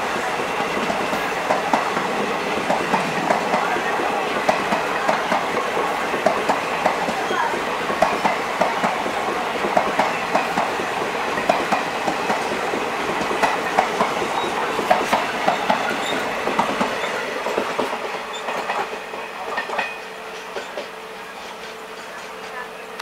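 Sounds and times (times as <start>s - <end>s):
train wheels clattering over rail joints: 0.1s - 22.6s.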